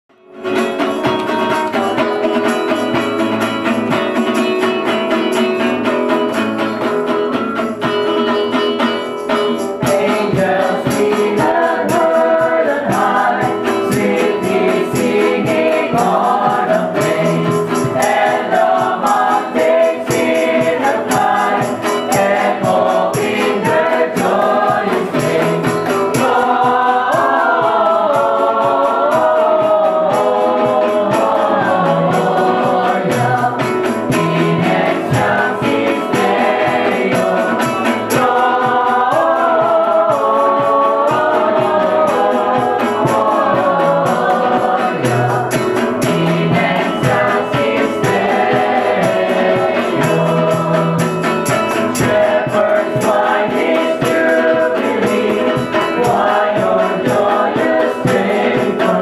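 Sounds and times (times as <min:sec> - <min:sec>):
steady beat: 0:00.5 - 0:59.0
group singing a carol: 0:08.8 - 0:59.0.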